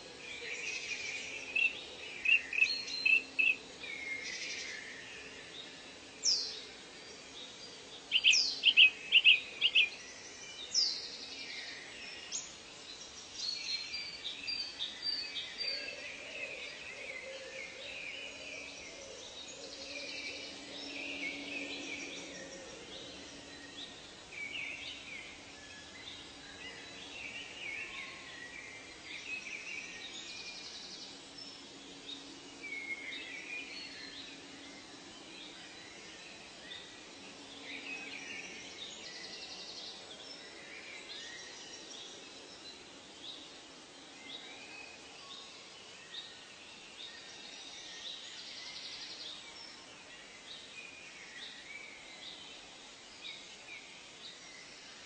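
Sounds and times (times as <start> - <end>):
birds calling and chirping: 0.0 - 55.0
faint steady drone: 0.0 - 55.0.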